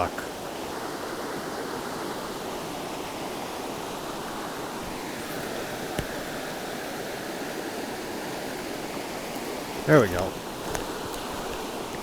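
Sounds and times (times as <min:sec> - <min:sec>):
river water rushing: 0:00.1 - 0:12.0.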